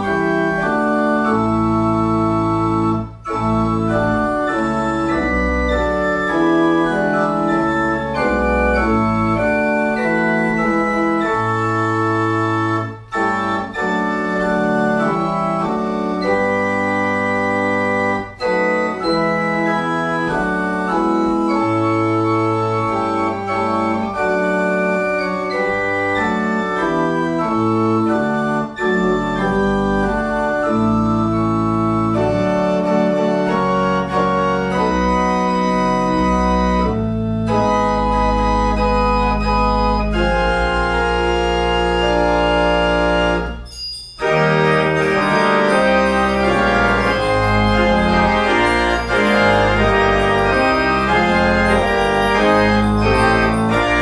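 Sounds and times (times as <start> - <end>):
organ pedal bass notes: 0.0 - 54.0
pipe organ chords: 0.0 - 54.0.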